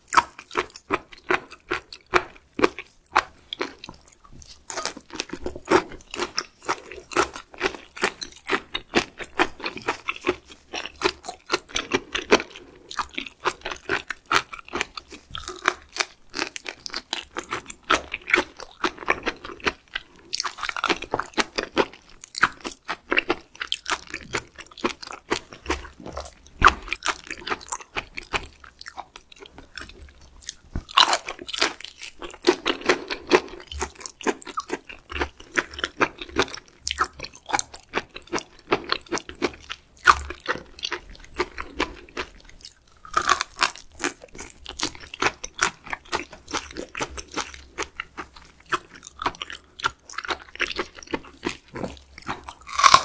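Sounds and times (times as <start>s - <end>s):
wet crunchy chewing: 0.0s - 53.0s.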